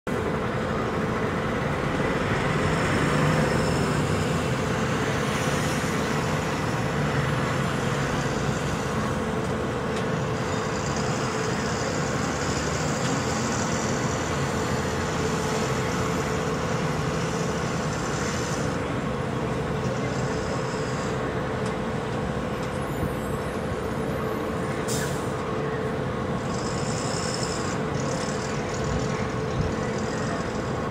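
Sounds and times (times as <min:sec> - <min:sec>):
constant hum: 0:00.1 - 0:30.9.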